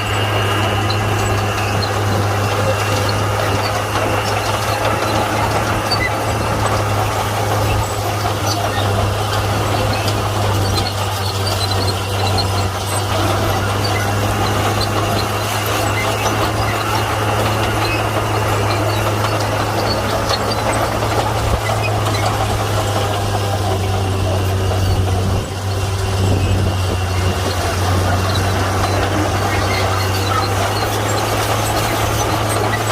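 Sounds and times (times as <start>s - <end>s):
bulldozer diesel engine running: 0.0s - 32.9s.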